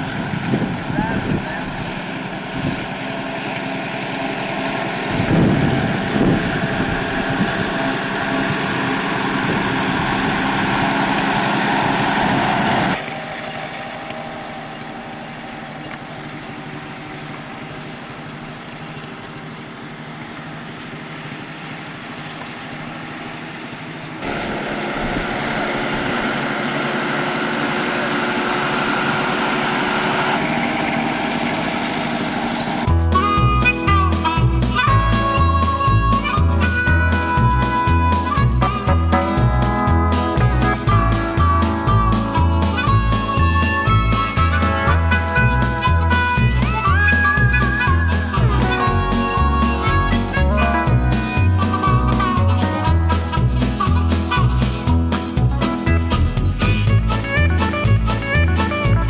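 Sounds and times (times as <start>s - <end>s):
small tractor engine running: 0.0s - 59.0s.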